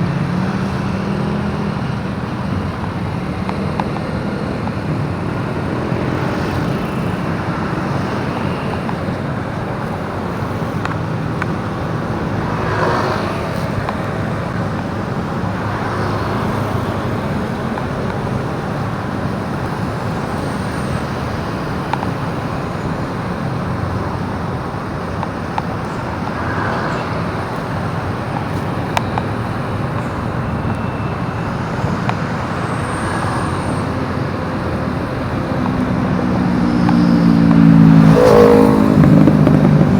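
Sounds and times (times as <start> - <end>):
motorbike engine: 0.0 - 39.9
passing vehicles: 0.0 - 39.9
road noise: 0.0 - 39.9.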